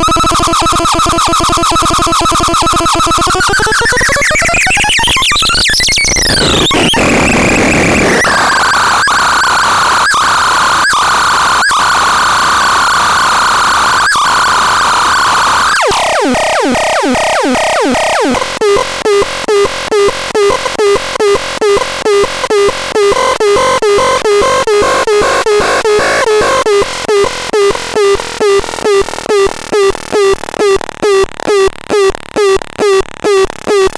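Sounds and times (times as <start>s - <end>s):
electronic siren: 0.0s - 33.9s.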